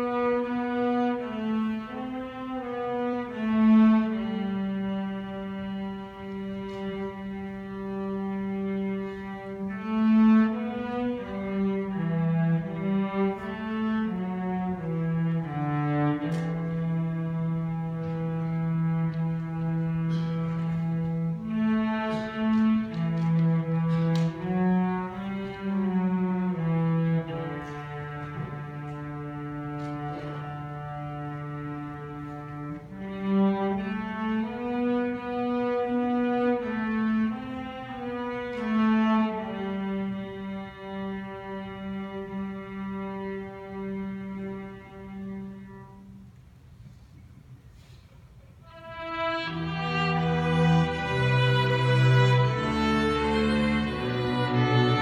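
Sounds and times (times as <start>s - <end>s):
bowed strings playing slowly: 0.0s - 55.0s.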